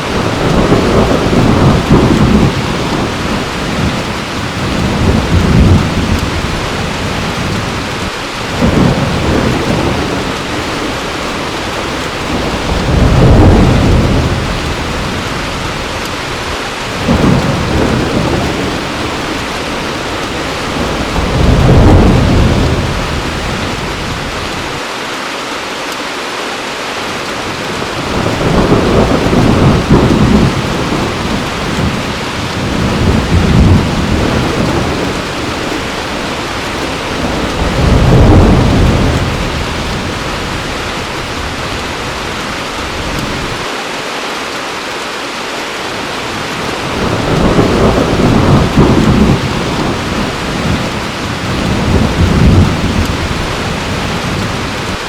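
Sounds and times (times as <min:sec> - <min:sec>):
thunder rumbling: 0:00.0 - 0:24.8, 0:27.5 - 0:43.7, 0:46.3 - 0:55.0
heavy rain falling: 0:00.0 - 0:55.0.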